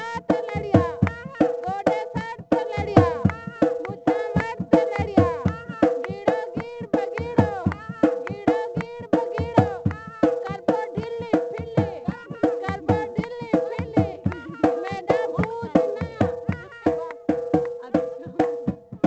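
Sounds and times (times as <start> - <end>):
dholak drum rhythm: 0.0 - 19.0
woman singing folk song: 0.0 - 19.0.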